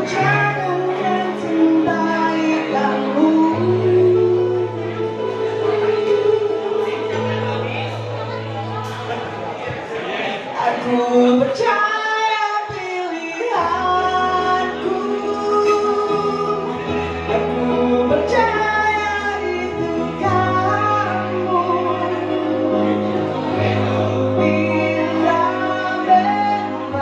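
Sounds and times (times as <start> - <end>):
woman singing into microphone: 0.0 - 9.0, 10.6 - 27.0
live band with guitars and keyboards: 0.0 - 27.0.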